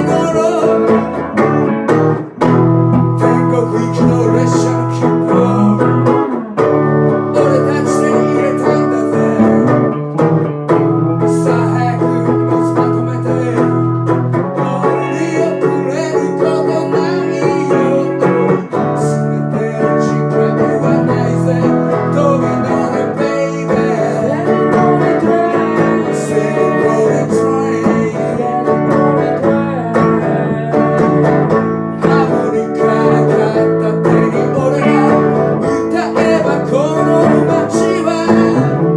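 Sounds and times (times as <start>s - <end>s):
acoustic guitar plucked and strummed: 0.0s - 38.9s.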